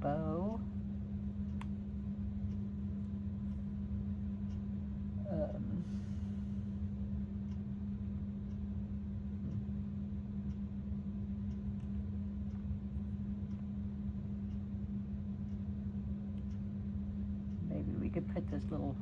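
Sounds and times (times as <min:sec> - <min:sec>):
low equipment hum: 0:00.0 - 0:19.0.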